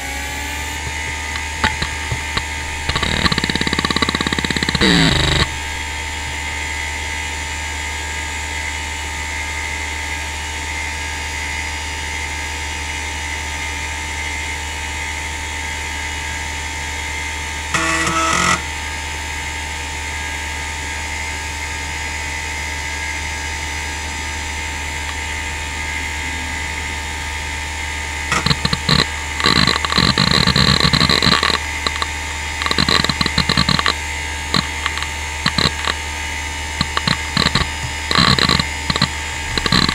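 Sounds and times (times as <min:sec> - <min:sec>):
hard drive seek chatter: 0:00.0 - 0:09.9, 0:15.6 - 0:39.9
hard drive humming and whining: 0:00.0 - 0:39.9.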